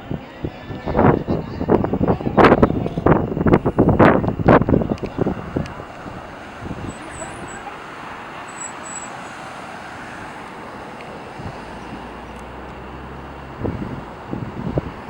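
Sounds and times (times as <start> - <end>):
road traffic noise: 0.0 - 15.0
low engine hum: 0.9 - 15.0.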